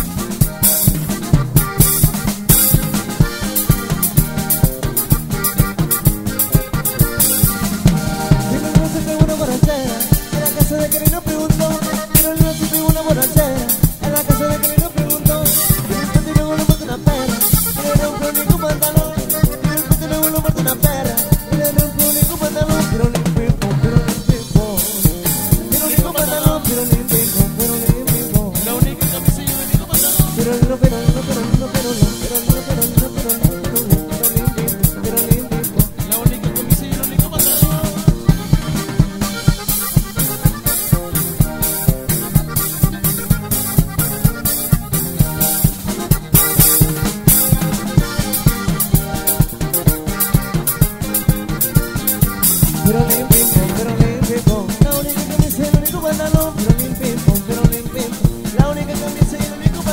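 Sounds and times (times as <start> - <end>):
button accordion melody: 0.0 - 59.9
drum kit beat: 0.0 - 59.9
electric bass and guitar: 0.0 - 59.9.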